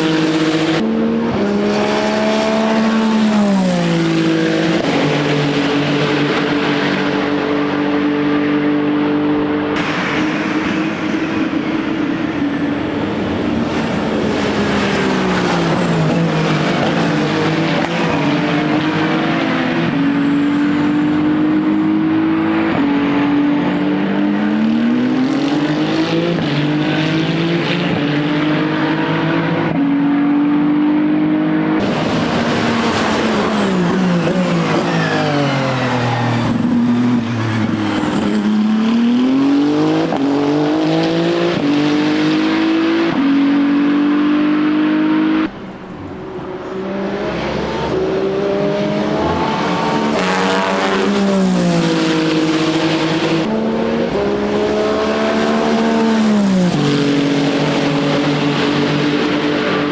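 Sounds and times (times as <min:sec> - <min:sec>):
race car engine shifting gears: 0:00.0 - 0:29.8, 0:30.8 - 0:59.9.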